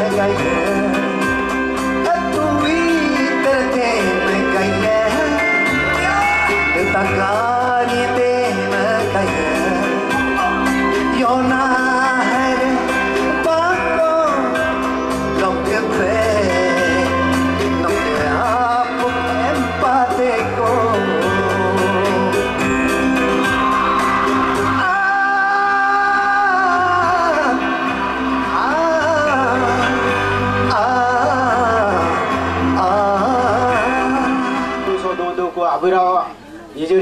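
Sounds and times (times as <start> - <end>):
man singing into a microphone: 0.0 - 23.1, 24.7 - 35.1
amplified music with steady beat: 0.0 - 36.1.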